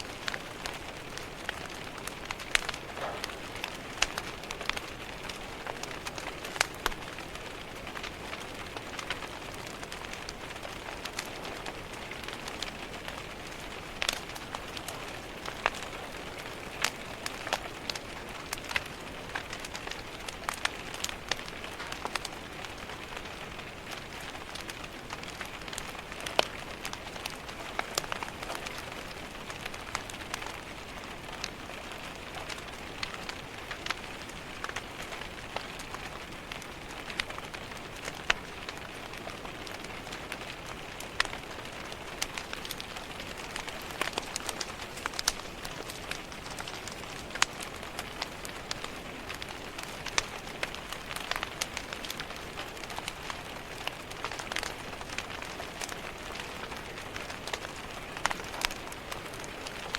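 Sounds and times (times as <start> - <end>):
rain pattering on a window: 0.0 - 59.9
wood fire crackling: 0.0 - 59.9.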